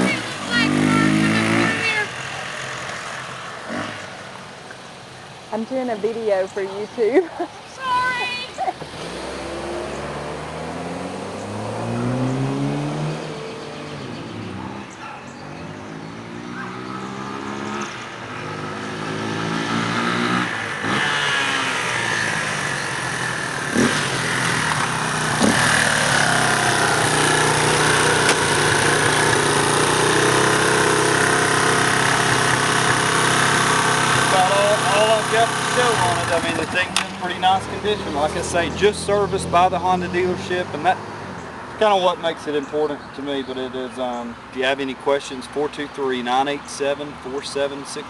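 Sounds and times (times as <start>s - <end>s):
motorcycle engine revving: 0.0s - 4.6s, 8.0s - 42.8s.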